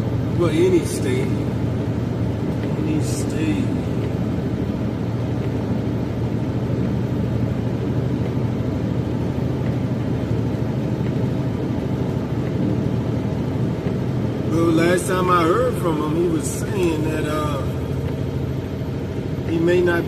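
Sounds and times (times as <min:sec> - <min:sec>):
engine and road rumble in cabin: 0:00.0 - 0:20.0.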